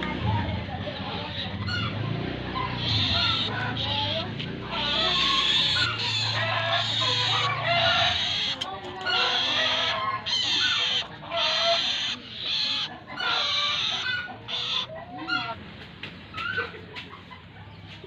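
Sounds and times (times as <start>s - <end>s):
shrike harsh rasping calls: 0.8s - 15.6s.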